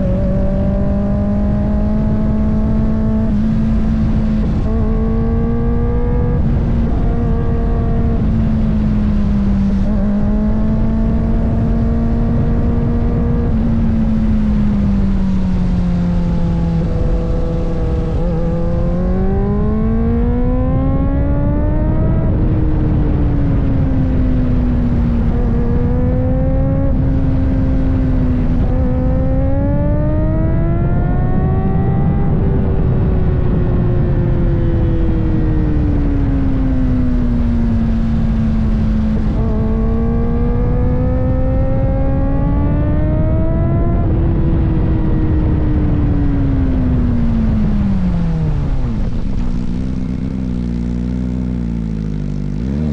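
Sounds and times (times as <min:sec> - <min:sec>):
low rumble of road travel: 0:00.0 - 0:52.9
motorcycle engine running: 0:00.0 - 0:52.9.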